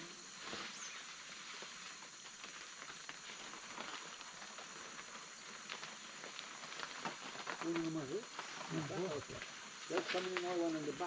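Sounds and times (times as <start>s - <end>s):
high-pitched insect chorus: 0.0s - 11.0s
light ticks and patter: 1.6s - 11.0s.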